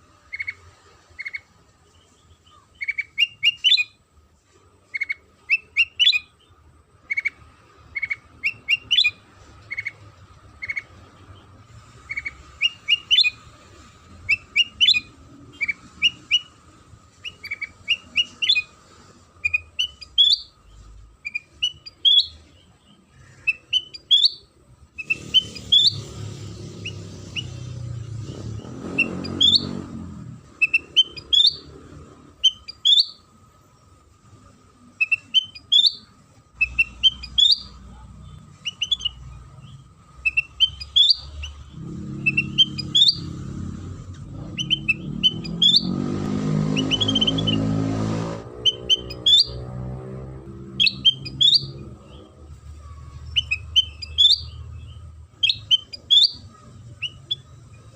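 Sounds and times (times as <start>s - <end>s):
bird singing quick chirps: 0.2s - 4.0s, 4.9s - 57.9s.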